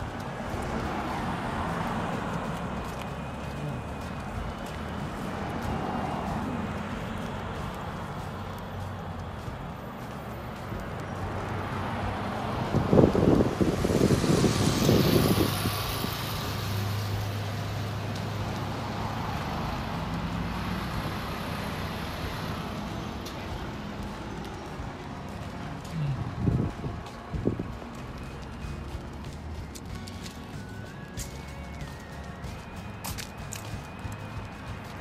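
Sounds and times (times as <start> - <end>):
background traffic noise: 0.0 - 35.0
vehicle passing: 0.0 - 35.0.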